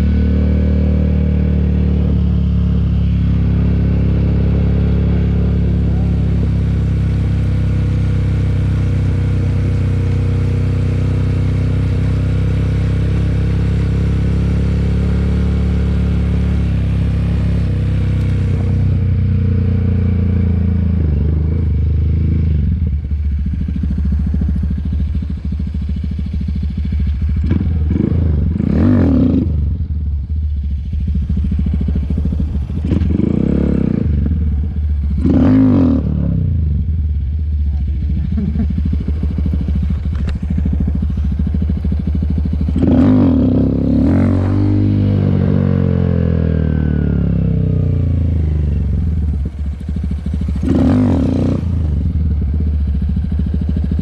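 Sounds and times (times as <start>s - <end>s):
engine revving: 0.0s - 23.0s, 27.2s - 54.0s
motorcycle engine running: 0.0s - 54.0s.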